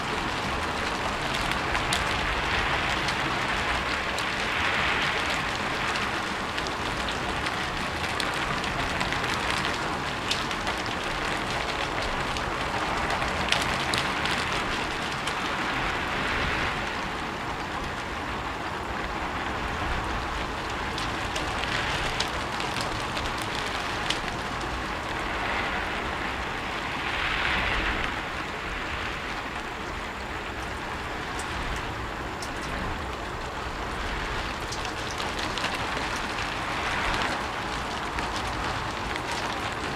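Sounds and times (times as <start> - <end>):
rain falling on a rooftop: 0.0 - 39.9.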